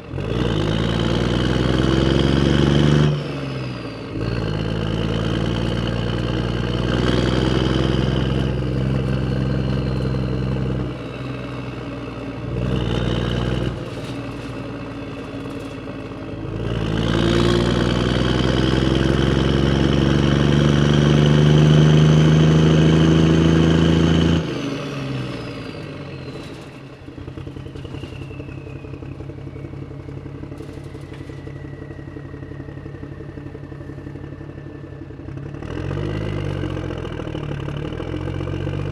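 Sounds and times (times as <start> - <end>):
vehicle engine revving: 0.0 - 11.6, 12.4 - 29.7, 35.3 - 38.9.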